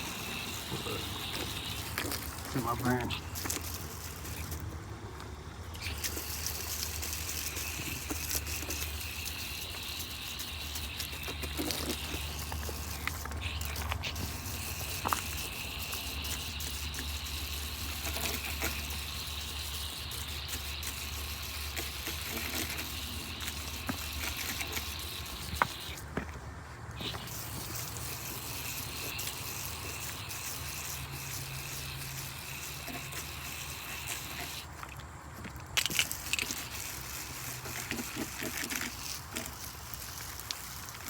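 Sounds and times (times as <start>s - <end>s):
hose spraying water: 0.0s - 4.8s, 5.7s - 26.1s, 27.0s - 35.1s, 35.8s - 41.0s.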